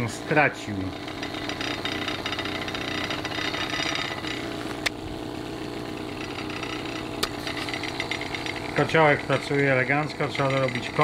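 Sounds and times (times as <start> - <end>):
model steam engine rapid buzzing: 0.0 - 11.0.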